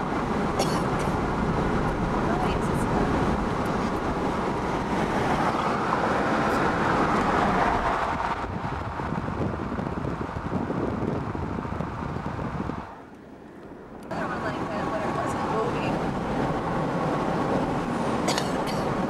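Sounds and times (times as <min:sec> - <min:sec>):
road and wind noise in car: 0:00.0 - 0:19.0.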